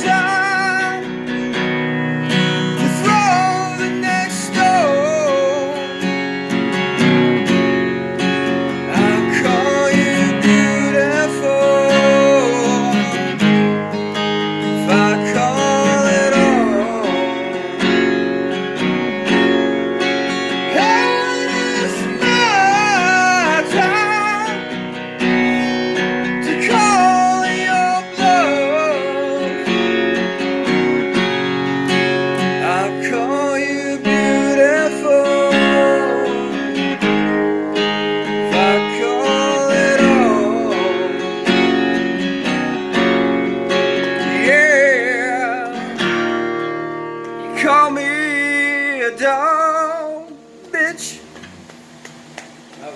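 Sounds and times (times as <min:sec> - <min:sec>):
bending guitar melody: 0:00.0 - 0:52.9
strummed acoustic guitar: 0:00.0 - 0:52.9.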